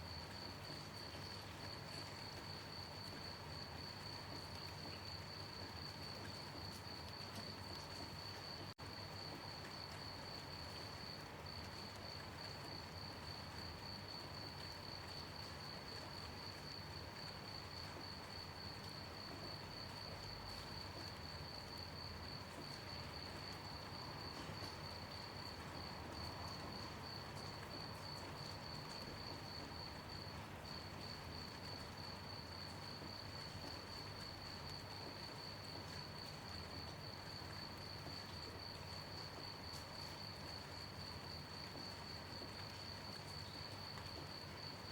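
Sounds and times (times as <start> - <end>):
gentle rain hiss: 0.0 - 44.9
crickets chirping: 0.1 - 44.9.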